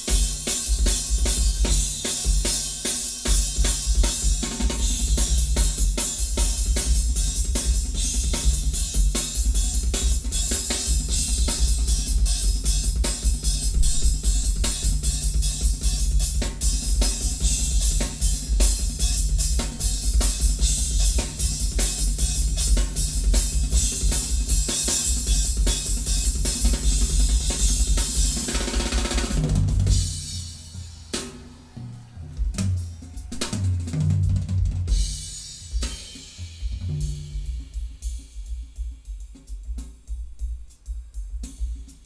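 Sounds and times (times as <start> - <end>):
drum kit percussion music: 0.0 - 42.0.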